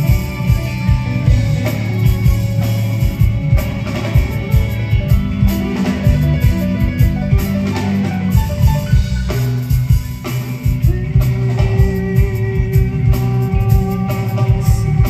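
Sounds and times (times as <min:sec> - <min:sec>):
bass: 0:00.0 - 0:15.0
drum kit beat: 0:00.0 - 0:15.0
electric guitars: 0:00.0 - 0:15.0
keyboards: 0:00.0 - 0:15.0.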